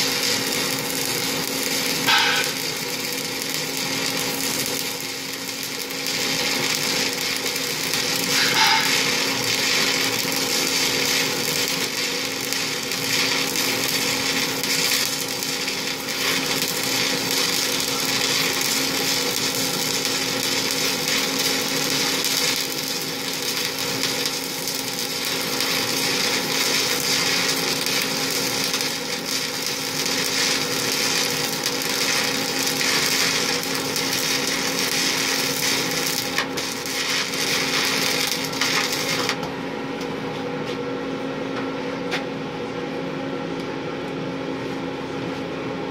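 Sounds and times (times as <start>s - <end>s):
welding arc sizzling: 0.0s - 39.5s.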